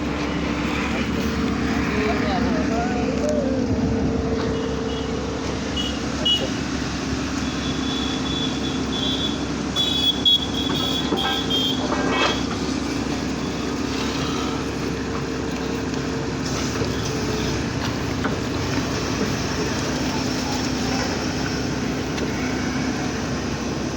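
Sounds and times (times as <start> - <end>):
drilling machine engine running: 0.0 - 23.9.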